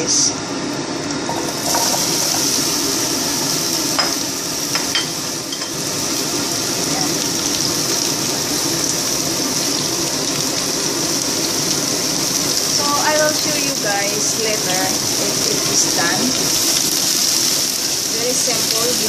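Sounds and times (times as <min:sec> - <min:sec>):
pumpkin sizzling in hot oil: 0:00.0 - 0:19.0.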